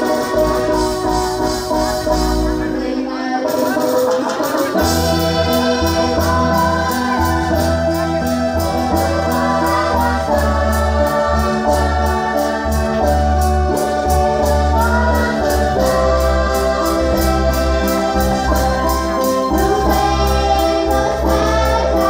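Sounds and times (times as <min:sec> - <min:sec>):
electronic organ music: 0:00.0 - 0:22.0.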